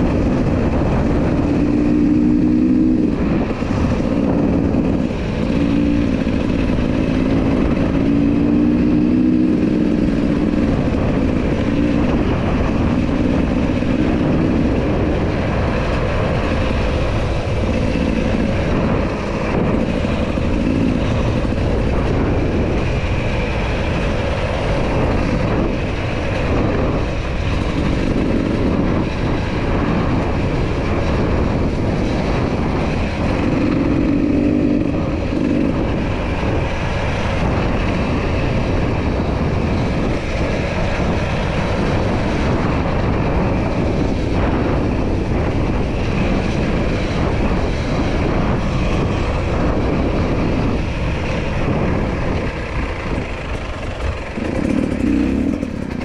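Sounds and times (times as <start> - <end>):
heavy steady rumble: 0.0 - 56.0
motorcycle engine revving: 0.0 - 56.0.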